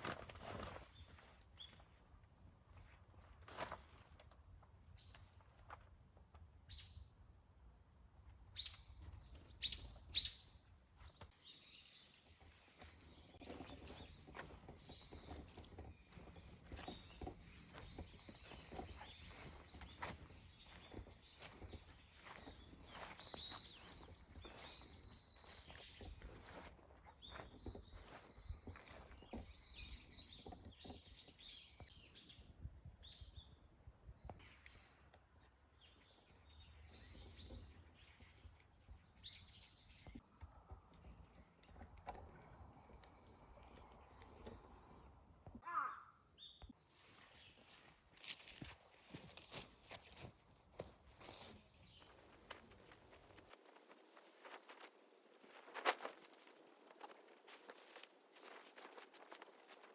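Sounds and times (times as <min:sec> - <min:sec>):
small birds chirping: 0:00.4 - 0:02.1, 0:08.5 - 0:59.9.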